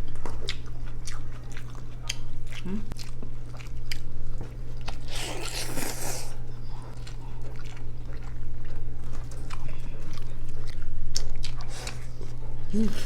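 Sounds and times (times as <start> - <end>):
wet chewing clicks: 0.0 - 6.1, 6.9 - 12.4
low electrical hum: 0.0 - 13.0.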